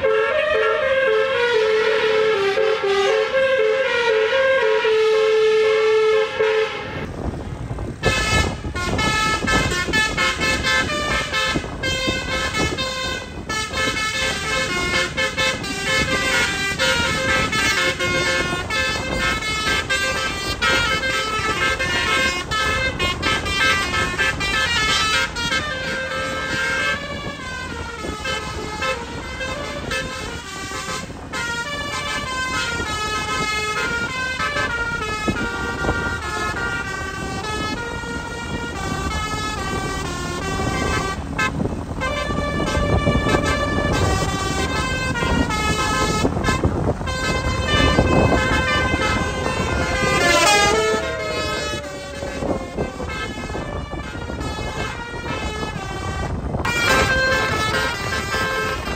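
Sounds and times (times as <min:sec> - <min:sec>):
musical car horn tooting a tune: 0:00.0 - 0:58.9.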